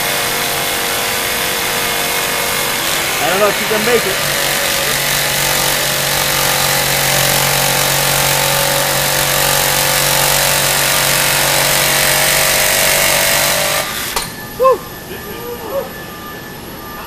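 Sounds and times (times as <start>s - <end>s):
jigsaw cutting steel: 0.0s - 14.3s.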